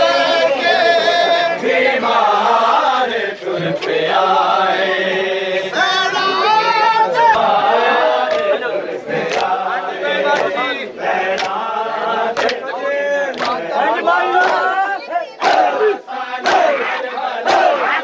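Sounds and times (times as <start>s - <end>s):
crowd of men chanting: 0.0s - 18.0s.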